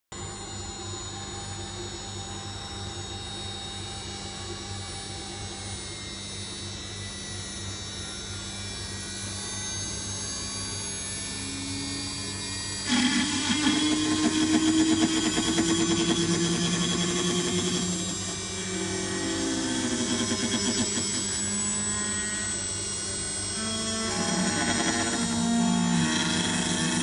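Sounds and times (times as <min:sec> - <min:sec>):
router spindle whining: 0:00.2 - 0:27.0
router cutting wood: 0:00.4 - 0:27.0.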